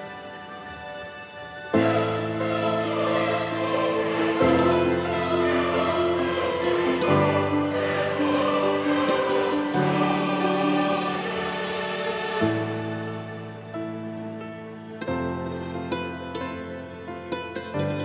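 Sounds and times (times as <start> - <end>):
slow music with choir-like chords: 0.0 - 18.0.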